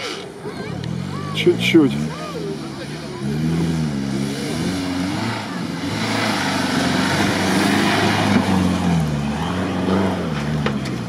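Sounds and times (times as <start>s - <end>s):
driving noise: 0.0s - 11.0s
suv engine revving: 0.0s - 11.0s.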